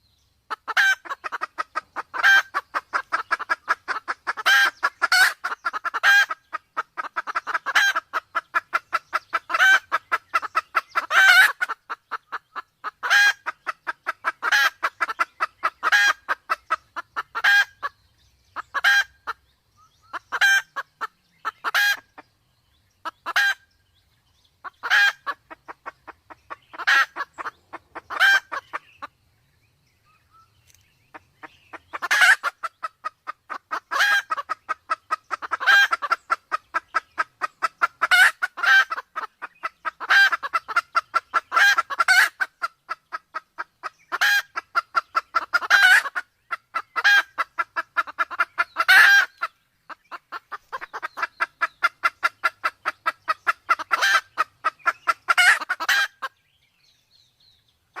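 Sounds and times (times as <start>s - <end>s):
junglefowl hen harsh calls: 0.5s - 18.0s, 18.6s - 19.4s, 20.1s - 22.2s, 23.0s - 23.7s, 24.6s - 29.2s, 30.1s - 56.4s.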